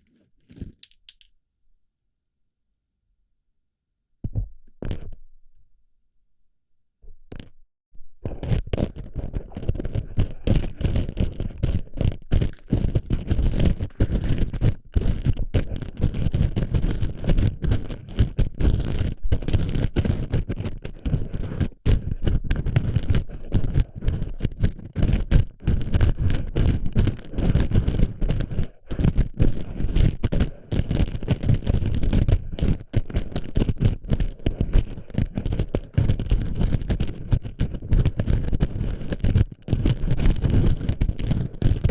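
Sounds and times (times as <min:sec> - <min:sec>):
plastic pellets scraping rattle: 0:00.4 - 0:01.2, 0:08.4 - 0:41.9.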